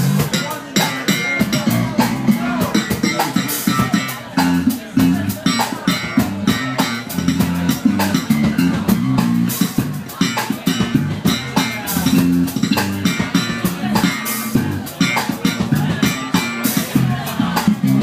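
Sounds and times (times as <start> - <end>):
bass guitar walking notes: 0.0 - 18.0
blues band playing: 0.0 - 18.0.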